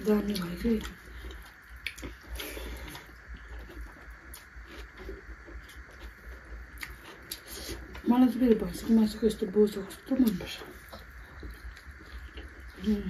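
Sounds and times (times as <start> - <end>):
chewing and lip smacks: 0.2 - 8.1, 10.2 - 13.0.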